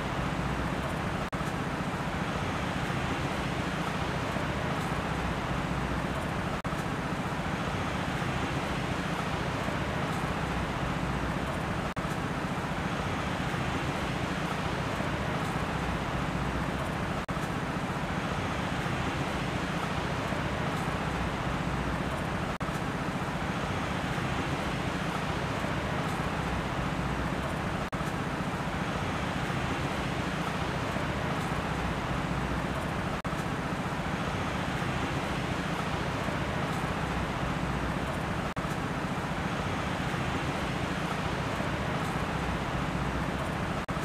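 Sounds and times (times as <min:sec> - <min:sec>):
steady rushing noise: 0:00.0 - 0:44.0.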